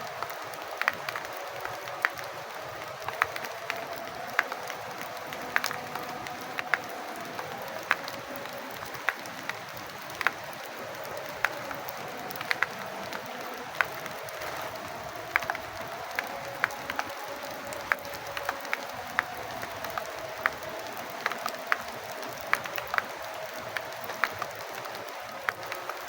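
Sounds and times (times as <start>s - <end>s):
loud water drips: 0.0s - 26.0s
rain falling: 0.0s - 26.0s.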